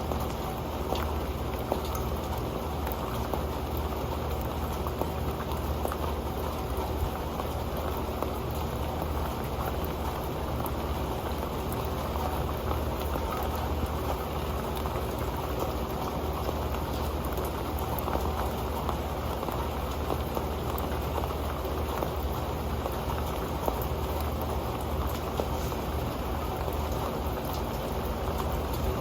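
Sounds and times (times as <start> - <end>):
rain pattering on a metal pan: 0.0 - 29.0.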